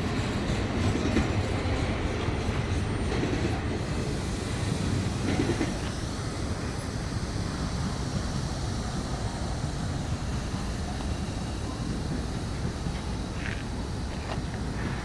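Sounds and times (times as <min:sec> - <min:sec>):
miniature steam train rumbling: 0:00.0 - 0:15.0.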